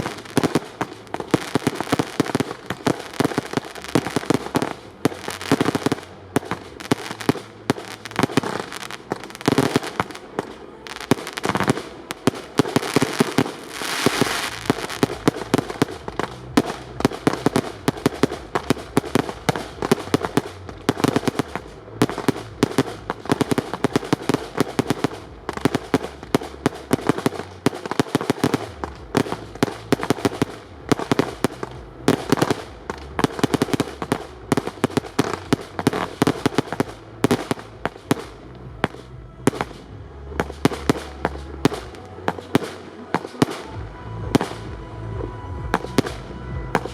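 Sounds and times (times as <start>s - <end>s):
fireworks bangs: 0.0s - 46.9s.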